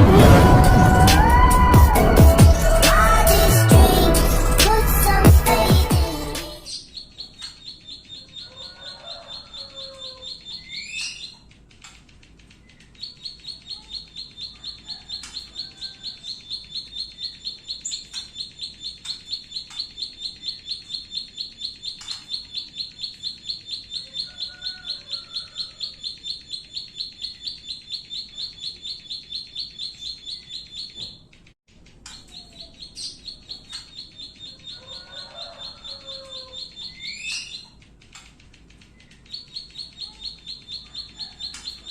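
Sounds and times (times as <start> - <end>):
soft low bird chattering: 6.8 - 41.9.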